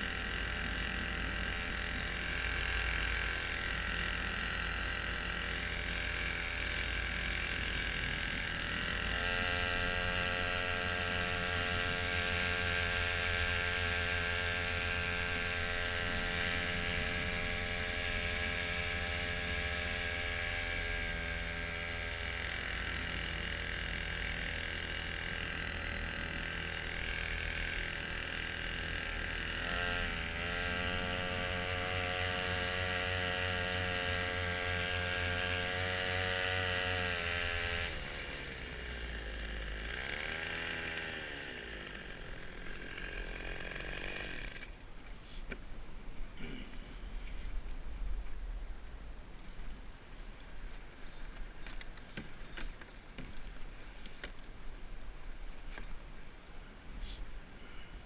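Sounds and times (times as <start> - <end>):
small boat motor running: 0.0 - 58.0.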